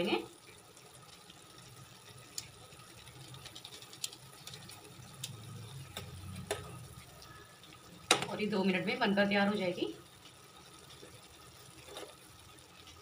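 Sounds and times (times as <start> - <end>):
pot simmering on gas stove: 0.0 - 13.0.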